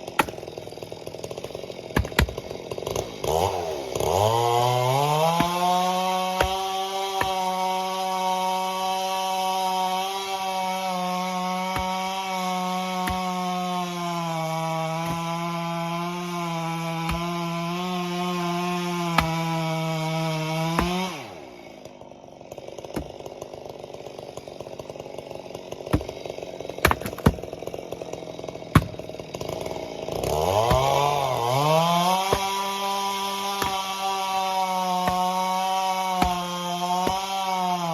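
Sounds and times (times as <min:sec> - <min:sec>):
chainsaw running at high revs: 0:00.0 - 0:37.9.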